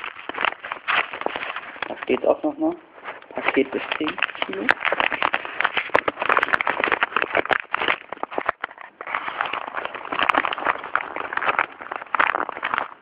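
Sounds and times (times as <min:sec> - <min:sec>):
cardboard parcel rustling and crackling: 0:00.0 - 0:13.0.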